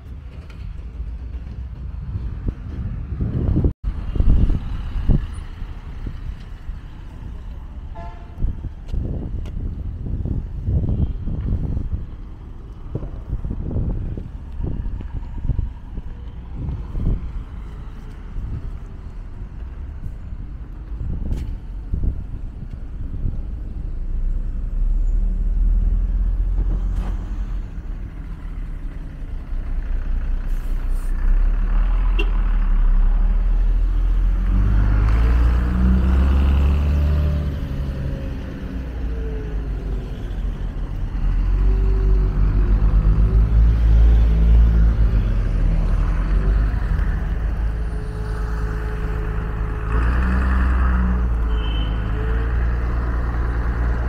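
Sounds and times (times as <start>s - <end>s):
car and truck engines rumbling: 0.0s - 54.0s.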